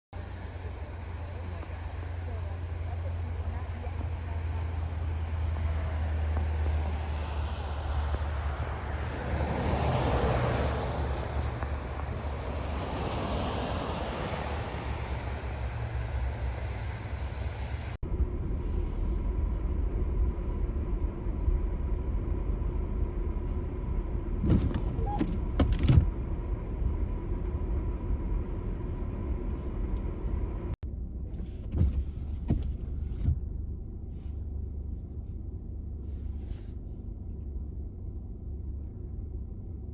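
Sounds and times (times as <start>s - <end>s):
car engine and road rumble: 0.1s - 39.9s
tyre and road noise rush: 0.2s - 38.0s.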